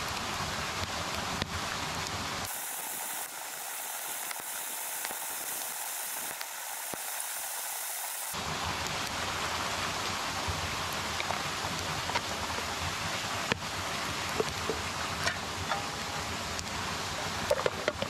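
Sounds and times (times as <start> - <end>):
falling water hiss: 0.0 - 18.0.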